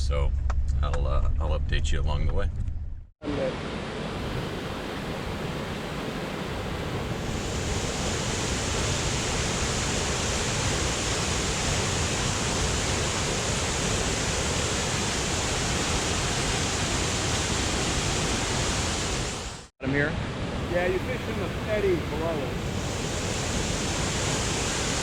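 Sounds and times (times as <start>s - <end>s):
waterfall rushing: 3.3s - 19.7s, 20.4s - 25.0s.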